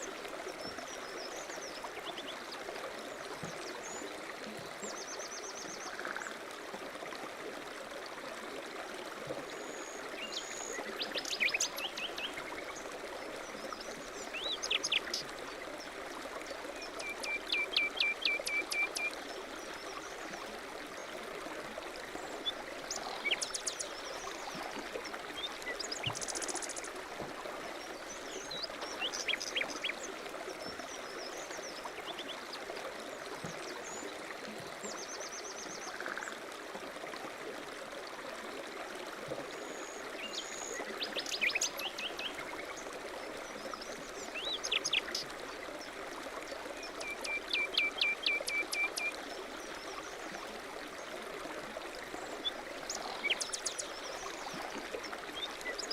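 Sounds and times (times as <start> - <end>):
stream running: 0.0 - 55.9.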